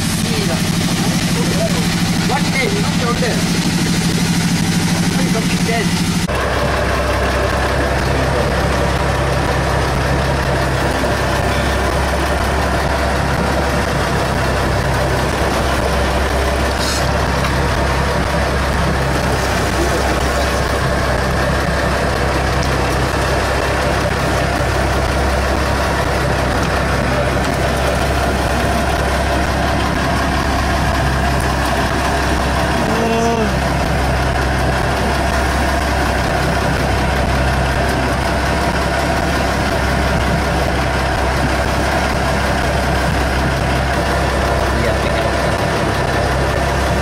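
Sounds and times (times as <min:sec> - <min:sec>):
boat engine idling: 0:00.0 - 0:47.0.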